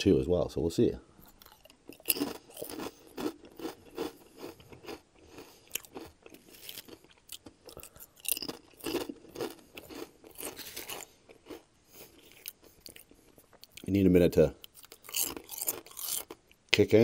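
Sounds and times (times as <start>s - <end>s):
potato chips being chewed: 1.2s - 14.0s, 14.6s - 16.6s.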